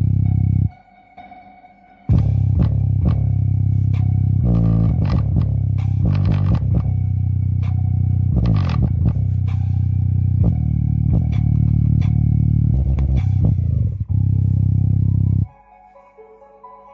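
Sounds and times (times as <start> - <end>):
deep bass tones from loudspeaker: 0.0 - 0.7, 2.1 - 15.5.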